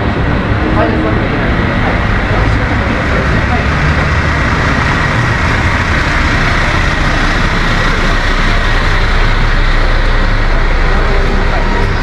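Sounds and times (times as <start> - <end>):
broad noisy hiss: 0.0 - 12.0
bus diesel engine rumbling: 0.0 - 12.0.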